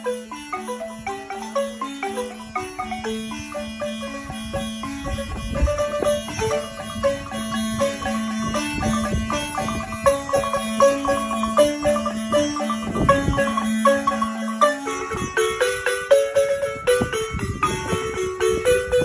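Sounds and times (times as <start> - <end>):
instrumental music with struck notes: 0.0 - 19.0
held bass notes: 1.8 - 19.0.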